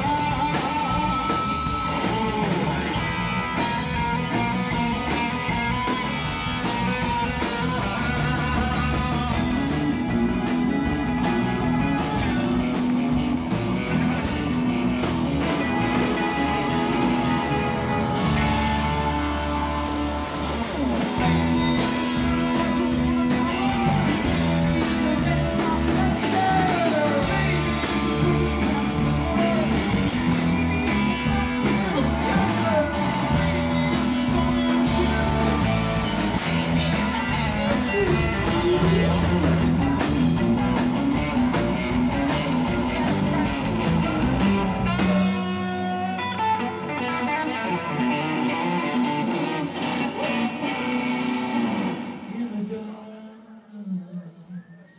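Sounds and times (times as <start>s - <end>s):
live rock band playing: 0.0s - 52.7s
electric guitars: 0.0s - 52.9s
drums: 0.0s - 53.2s.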